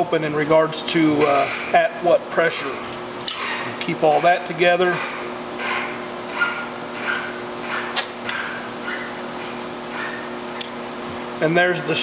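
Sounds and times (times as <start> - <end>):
low shop hum: 0.0 - 12.0.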